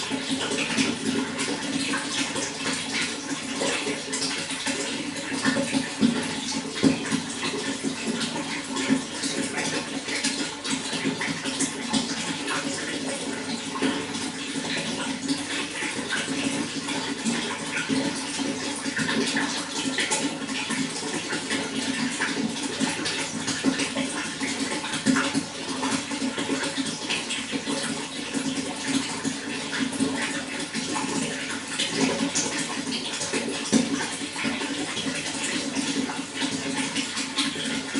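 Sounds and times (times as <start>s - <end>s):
running water splashing and gurgling: 0.0s - 37.9s.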